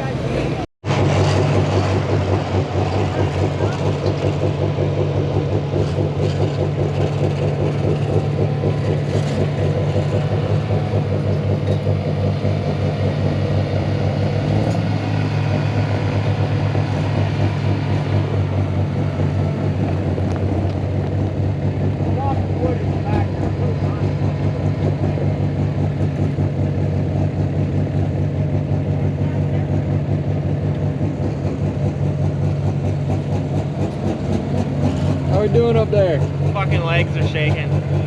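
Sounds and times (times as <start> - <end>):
large engine rumbling: 0.0 - 38.0.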